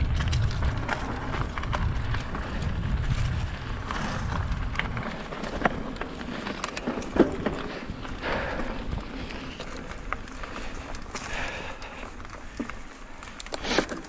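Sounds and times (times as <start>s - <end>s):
wind buffeting microphone: 0.0s - 12.6s
bike rattling: 0.0s - 14.0s
tyre rumble: 0.0s - 14.0s.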